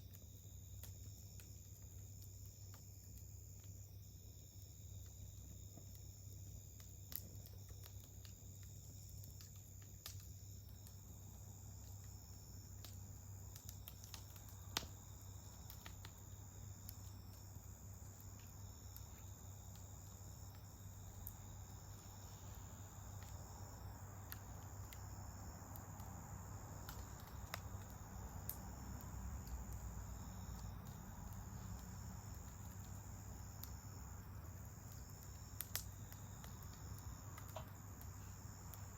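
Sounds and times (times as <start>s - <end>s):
campfire crackling and popping: 0.0s - 38.9s
insects chirring: 0.0s - 38.9s
soft hiss: 0.0s - 38.9s.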